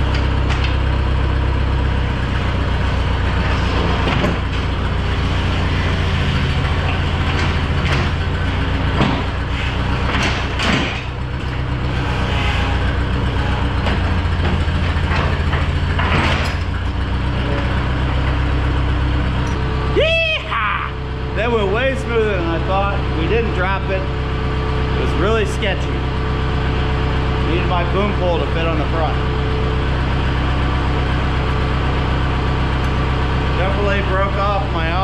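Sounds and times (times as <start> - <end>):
loader engine running: 0.0 - 35.0.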